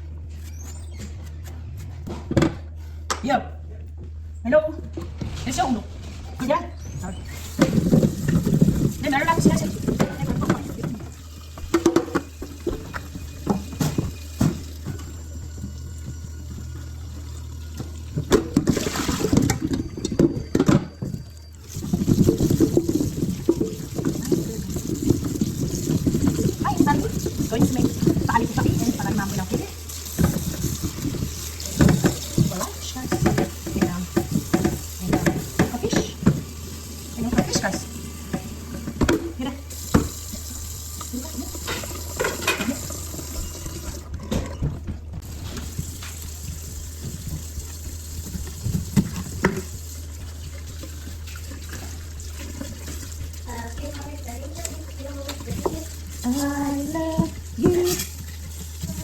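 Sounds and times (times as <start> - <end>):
objects knocking and clattering: 4.8 - 59.0
water splashing in a sink: 6.4 - 59.0.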